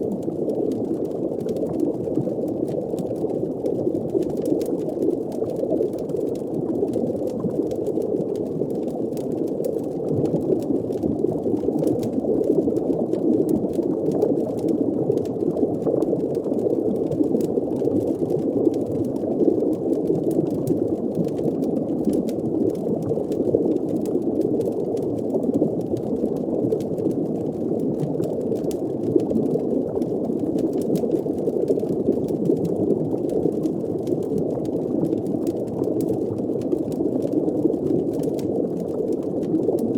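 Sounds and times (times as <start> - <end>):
faint fire crackles: 0.0 - 39.9
water bubbling: 0.0 - 39.9.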